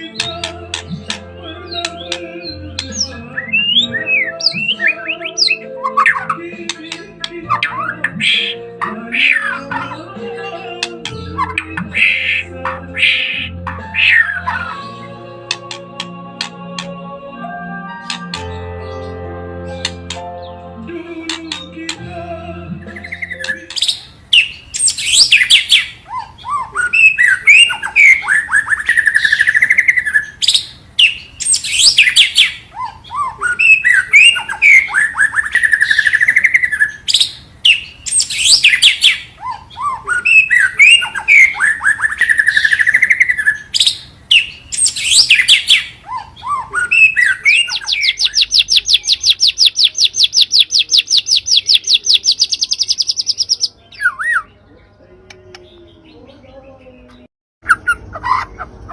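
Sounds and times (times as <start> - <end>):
bird whistled song with trill: 0.0 - 15.8, 22.8 - 54.5.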